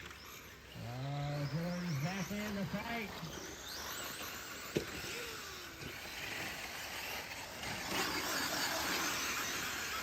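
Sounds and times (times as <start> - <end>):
rc trucks running on dirt: 0.0 - 10.0.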